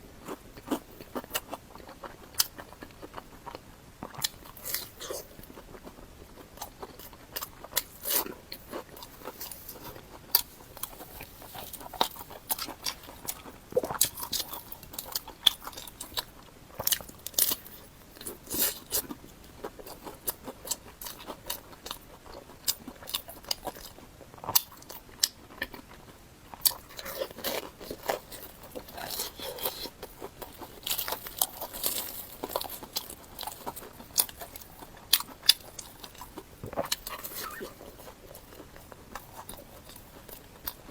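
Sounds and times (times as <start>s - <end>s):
crunchy bites and chewing: 0.2s - 40.9s.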